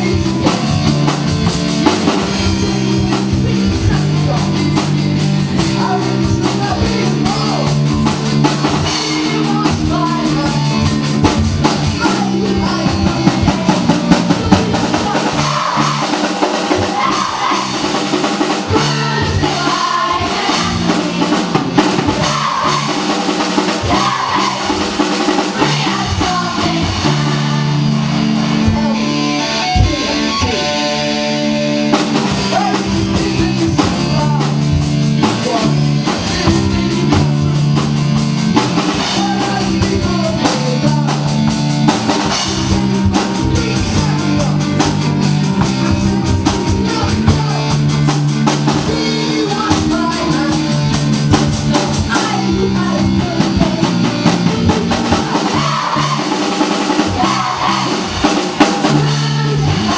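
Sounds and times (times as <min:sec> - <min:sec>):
bass line: 0:00.0 - 0:59.9
drum kit beat: 0:00.0 - 0:59.9
guitar: 0:00.0 - 0:59.9.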